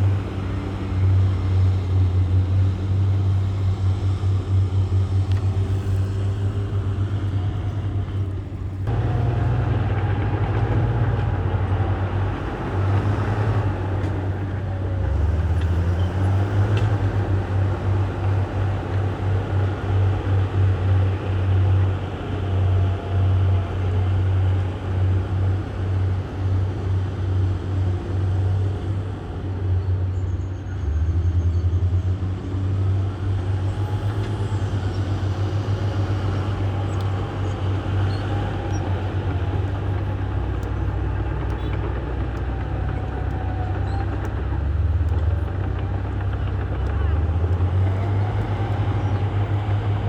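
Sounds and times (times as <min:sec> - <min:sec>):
diesel machinery engine drone: 0:00.0 - 0:50.0.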